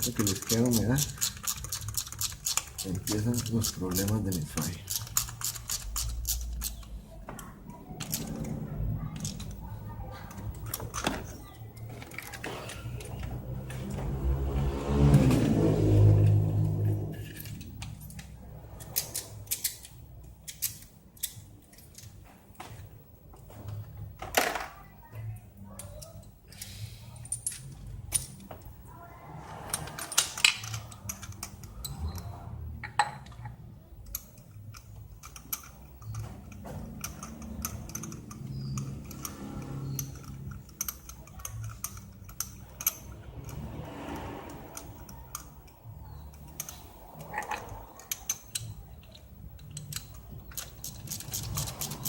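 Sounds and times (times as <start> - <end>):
low background hum: 0.0 - 52.0.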